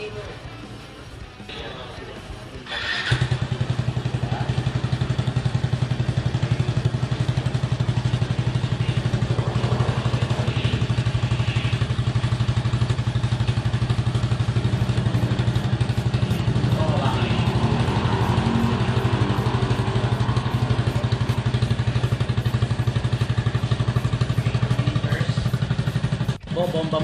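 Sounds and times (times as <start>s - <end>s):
scooter engine starting and idling: 2.6s - 27.0s.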